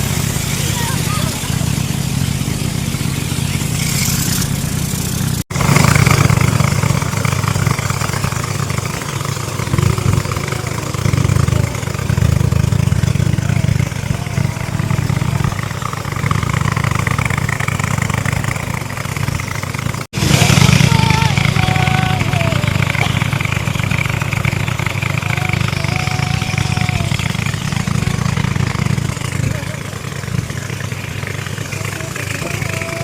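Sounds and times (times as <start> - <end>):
speedboat engine drone: 0.0 - 33.0.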